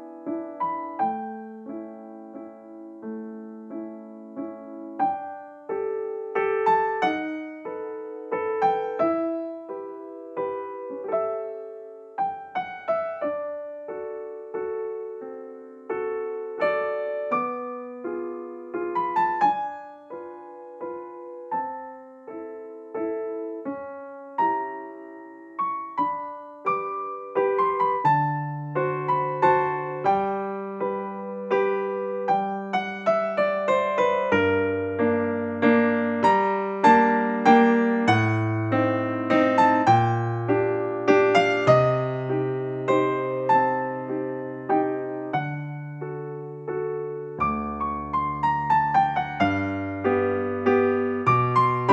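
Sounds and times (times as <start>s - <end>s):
gentle piano tune: 0.0s - 51.9s.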